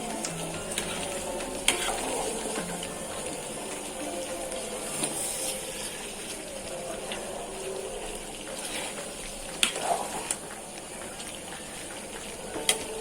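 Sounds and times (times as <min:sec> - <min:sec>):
curry bubbling in a pan: 0:00.0 - 0:13.0.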